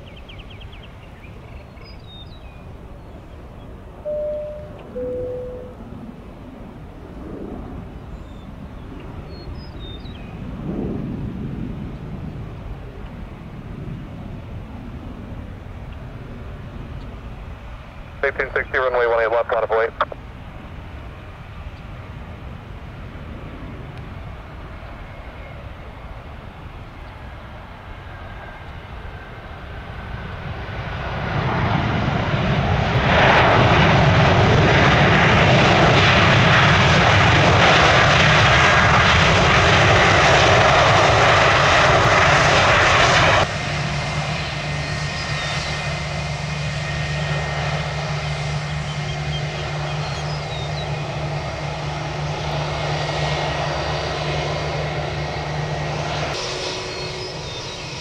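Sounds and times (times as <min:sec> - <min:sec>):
jet engines roaring: 0:00.0 - 0:58.0
low engine hum: 0:00.0 - 0:58.0.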